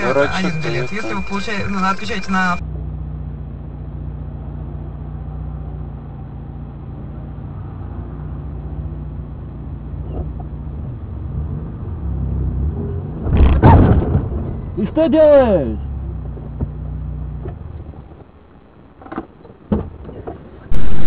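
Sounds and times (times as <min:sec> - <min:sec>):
car engine droning: 0:00.0 - 0:21.0
road noise: 0:00.0 - 0:21.0.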